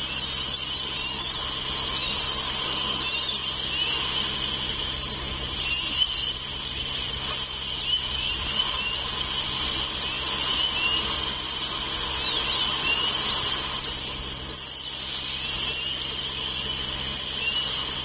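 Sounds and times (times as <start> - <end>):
high thin bird chirps: 0.0 - 18.0
low electrical hum: 0.0 - 18.0
steady hiss: 0.0 - 18.0.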